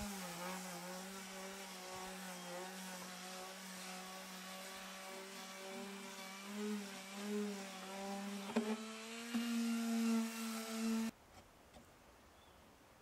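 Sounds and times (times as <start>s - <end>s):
orbital sander on wood: 0.0s - 11.1s.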